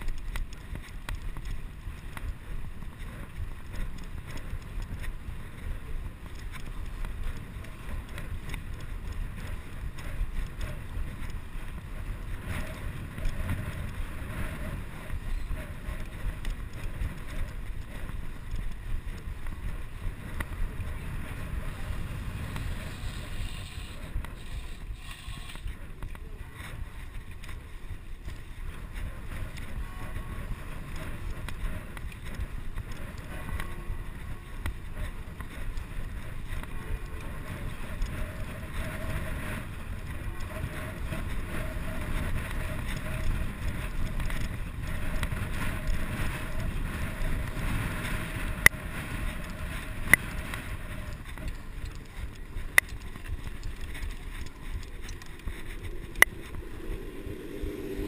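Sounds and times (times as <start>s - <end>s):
bicycle frame rattling: 0.0s - 57.6s
bicycle tyres rumbling on cobblestones: 0.0s - 58.0s
wind buffeting microphone: 0.0s - 58.0s.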